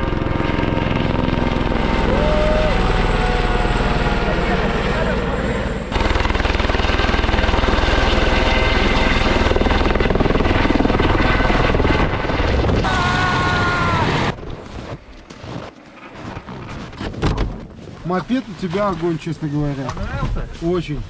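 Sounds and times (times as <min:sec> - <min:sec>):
helicopter rotor beating: 0:00.0 - 0:17.0
turbine whine: 0:00.0 - 0:17.4.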